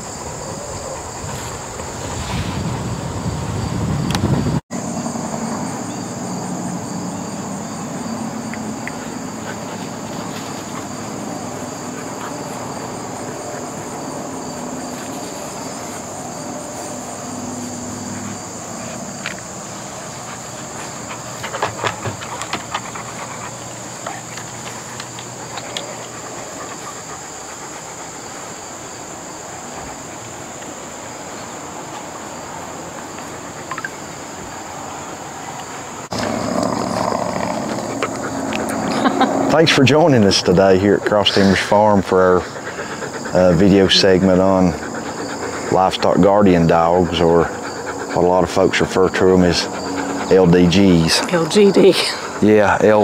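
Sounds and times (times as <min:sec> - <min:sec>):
field insects chirping: 0:00.0 - 0:53.0.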